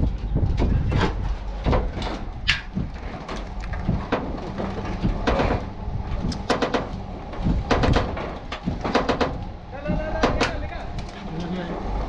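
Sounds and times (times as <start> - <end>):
metal knocks clanks and scraping: 0.0 - 12.0
steady low rumble: 0.0 - 12.0.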